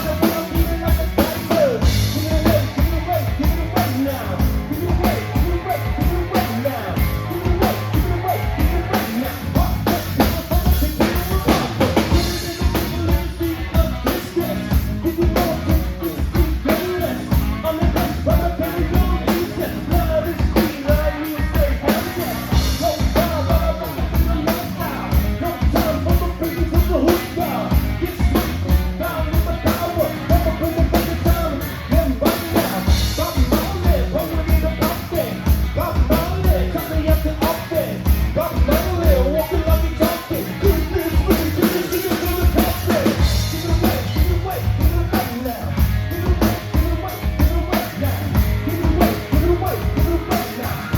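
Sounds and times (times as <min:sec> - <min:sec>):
drum kit beat: 0:00.0 - 0:50.9
live band playing: 0:00.0 - 0:50.9
person singing: 0:00.0 - 0:50.9.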